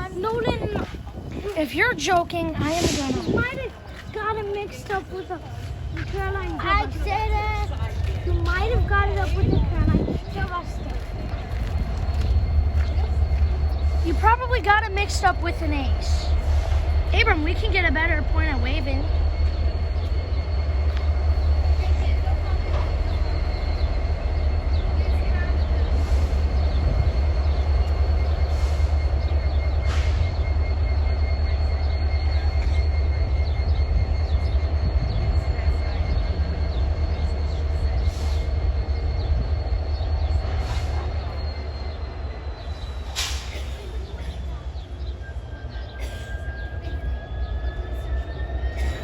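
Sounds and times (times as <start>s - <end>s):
freight train rumbling: 0.0s - 49.0s
locomotive engines idling: 0.0s - 49.0s.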